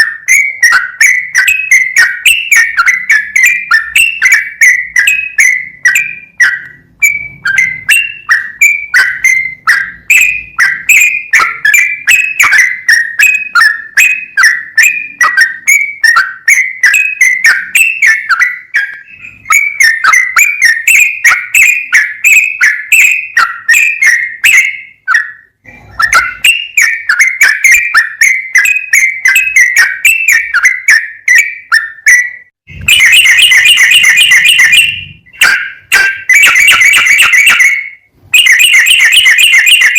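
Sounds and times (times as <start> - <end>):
bulbul chattering whistled song: 0.0 - 39.9.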